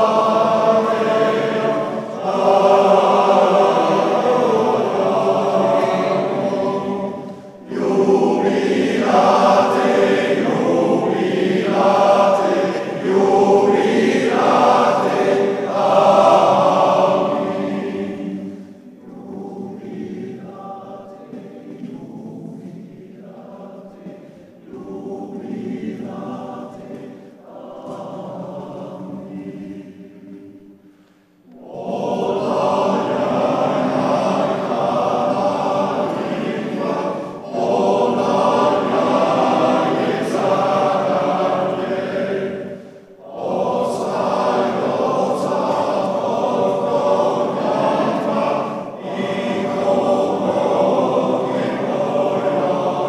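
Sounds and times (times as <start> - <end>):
male choir singing: 0.0 - 30.6, 31.5 - 53.0.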